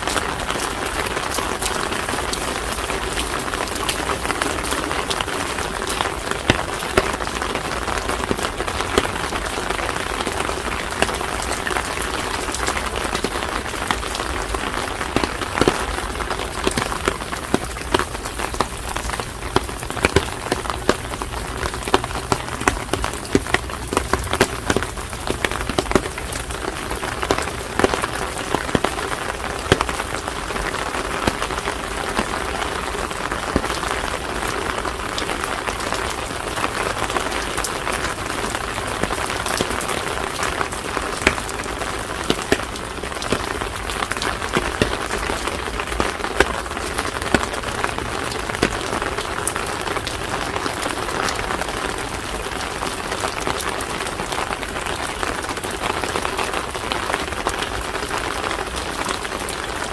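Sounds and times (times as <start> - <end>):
raindrops ticking: 0.0 - 59.9
steady rain: 0.0 - 59.9.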